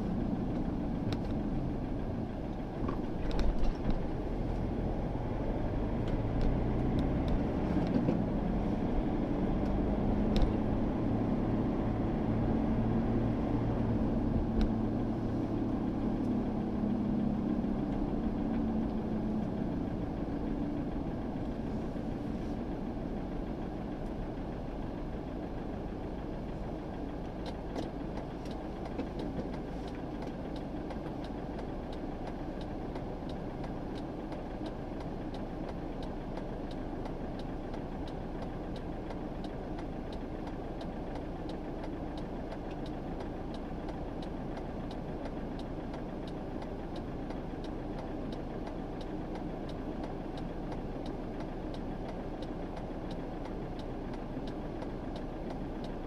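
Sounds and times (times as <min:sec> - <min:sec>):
car engine hum: 0:00.0 - 0:56.0
road noise rumble: 0:00.0 - 0:56.0.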